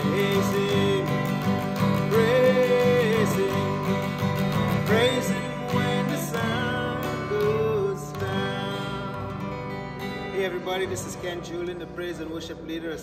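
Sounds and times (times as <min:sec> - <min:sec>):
man singing: 0:00.0 - 0:09.4, 0:10.2 - 0:13.0
strummed acoustic guitar: 0:00.0 - 0:13.0.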